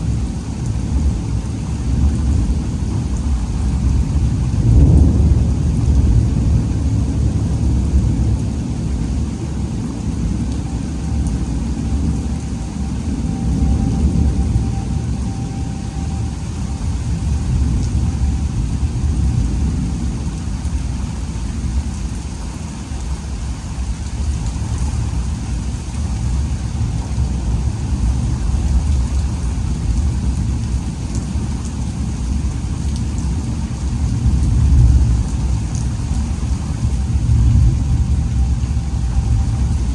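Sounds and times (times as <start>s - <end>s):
rain: 0.0s - 39.9s
thunder rumble: 0.0s - 39.9s.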